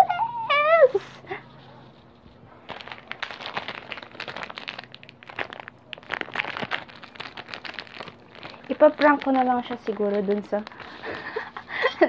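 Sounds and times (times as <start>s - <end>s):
plastic wrapper crinkling: 1.6s - 12.0s.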